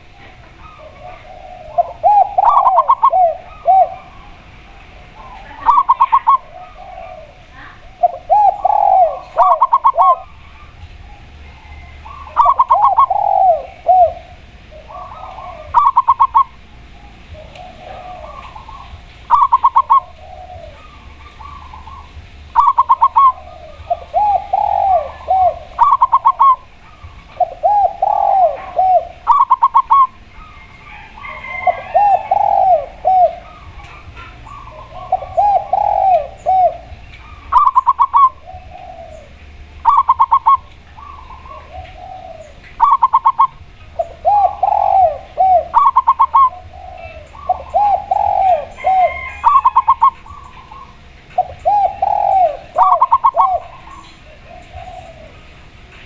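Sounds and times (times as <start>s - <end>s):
dove drawn-out coos: 0.0s - 56.0s.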